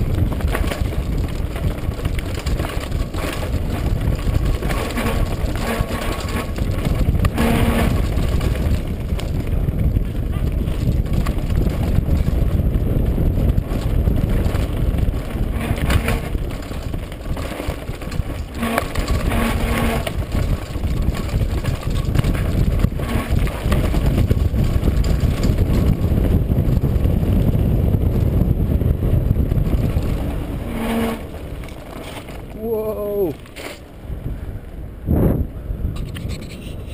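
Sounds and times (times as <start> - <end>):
mountain bike rattling over rocks: 0.0 - 34.0
wind rumbling on microphone: 0.0 - 36.9.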